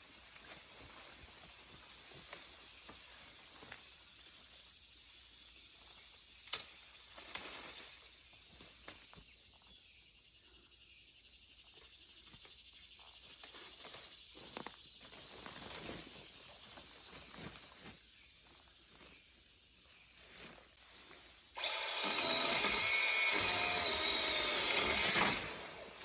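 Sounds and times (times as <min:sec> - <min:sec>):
high insect hiss: 0:00.0 - 0:26.0.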